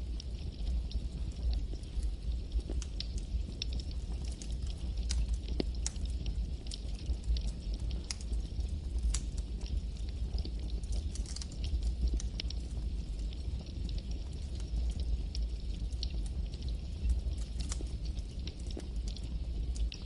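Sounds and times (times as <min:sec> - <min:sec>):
campfire flames rumbling: 0:00.0 - 0:20.0
wood crackling and popping: 0:00.0 - 0:20.0.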